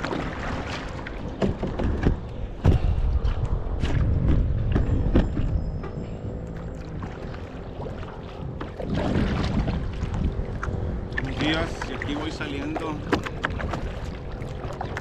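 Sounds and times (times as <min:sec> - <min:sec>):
paddle strokes in water: 0:00.0 - 0:15.0
water slapping at hull: 0:00.0 - 0:15.0
wind rumble on microphone: 0:00.0 - 0:15.0.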